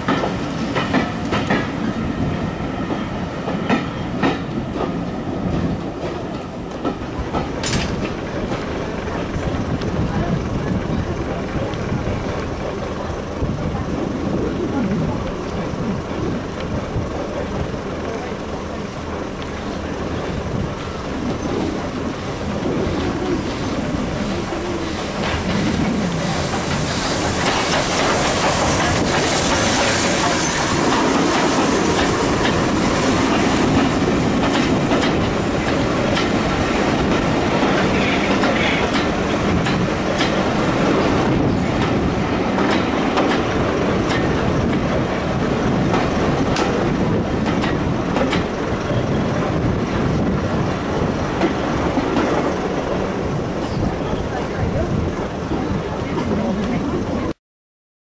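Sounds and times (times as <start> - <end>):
wheels clicking over rail joints: 0.0 - 1.9, 2.9 - 57.3
train passing on next track: 0.0 - 57.4.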